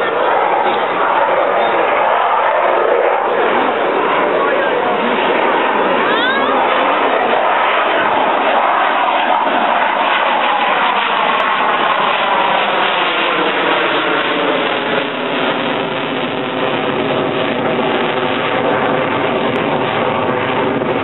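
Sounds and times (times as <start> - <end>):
fighter jet engine rushing: 0.0 - 21.0.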